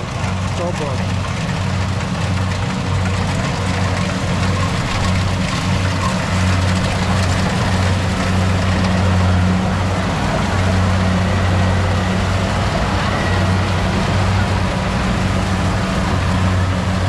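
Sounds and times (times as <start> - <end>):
farm machinery engine running: 0.0 - 17.0.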